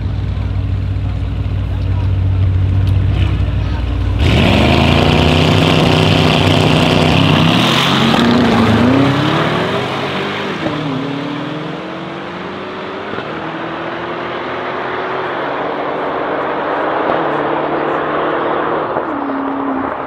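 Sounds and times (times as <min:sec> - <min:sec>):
cars accelerating in drag race: 0:00.0 - 0:20.0.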